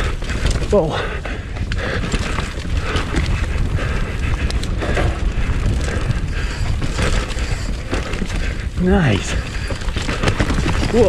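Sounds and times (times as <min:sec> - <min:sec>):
bike knocks and rattles: 0:00.0 - 0:11.0
bike tyres rumbling over dirt: 0:00.0 - 0:11.0
wind buffeting camera: 0:00.0 - 0:11.0.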